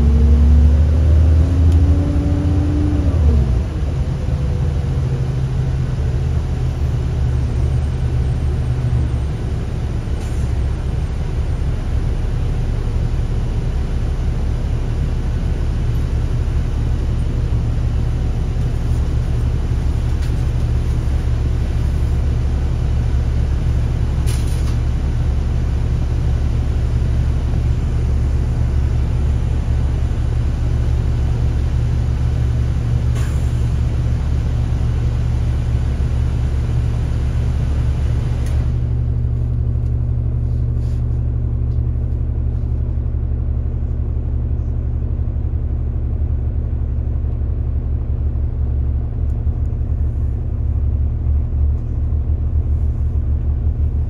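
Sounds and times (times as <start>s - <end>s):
bus engine accelerating: 0.0s - 54.0s.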